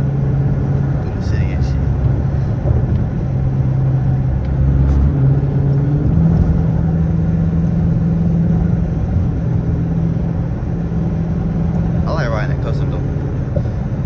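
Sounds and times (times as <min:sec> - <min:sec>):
car exhaust droning: 0:00.0 - 0:14.0.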